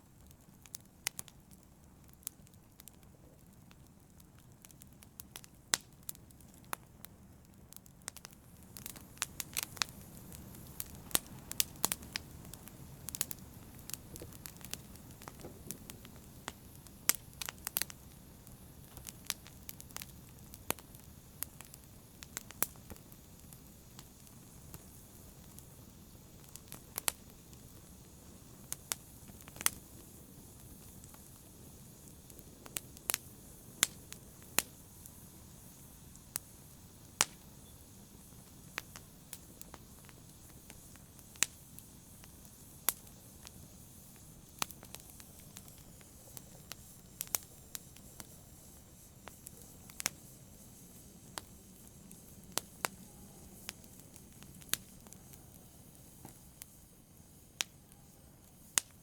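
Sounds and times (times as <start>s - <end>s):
low steady fire hiss: 0.0s - 59.0s
wood fire crackling and popping: 0.0s - 59.0s.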